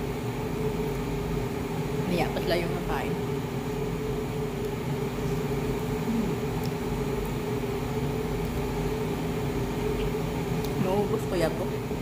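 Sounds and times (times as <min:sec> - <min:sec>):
household machine humming: 0:00.0 - 0:12.0.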